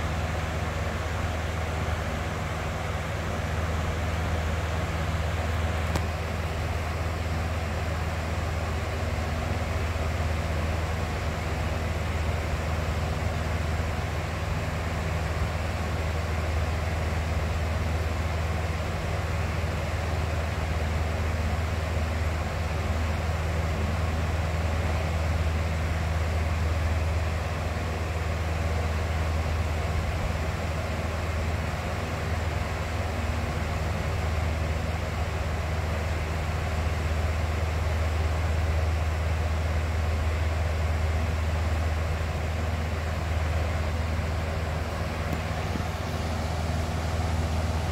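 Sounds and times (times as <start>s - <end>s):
fan air rushing: 0.0s - 47.9s
low motor hum: 0.0s - 47.9s.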